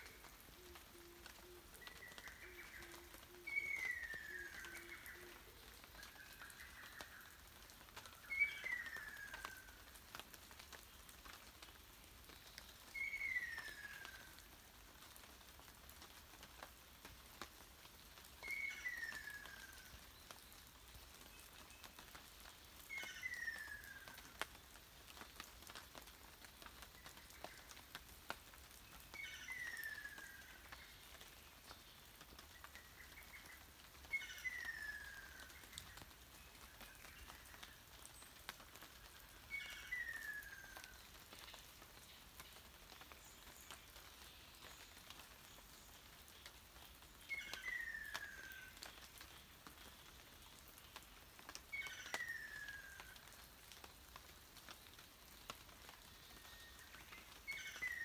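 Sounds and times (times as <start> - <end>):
rain dripping on foliage: 0.0 - 58.0.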